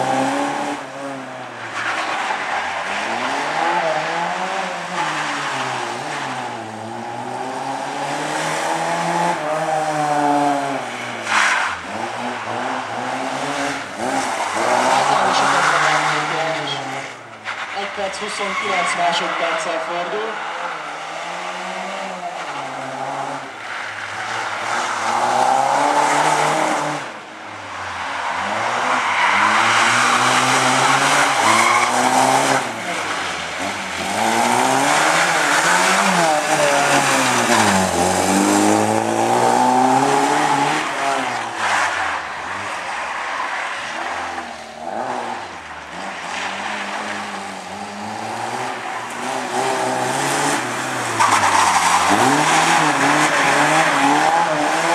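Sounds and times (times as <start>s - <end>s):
car engine revving: 0.0s - 43.1s, 43.9s - 54.9s.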